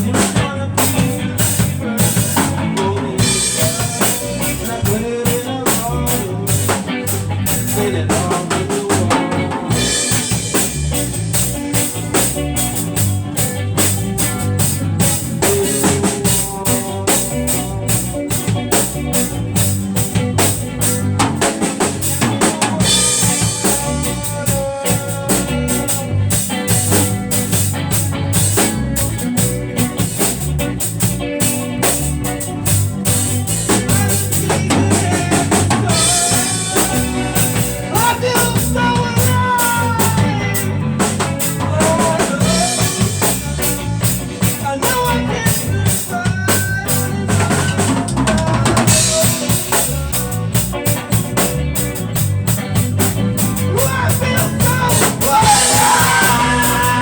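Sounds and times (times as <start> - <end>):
bass line: 0.0 - 57.0
drum kit beat: 0.0 - 57.0.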